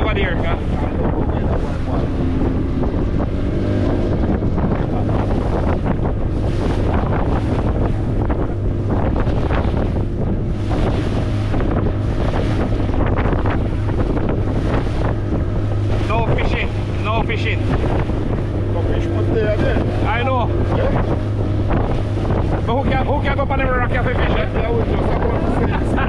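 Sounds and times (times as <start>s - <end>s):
low engine hum: 0.0s - 26.0s
rushing water: 0.0s - 26.0s
wind buffeting microphone: 0.0s - 26.0s.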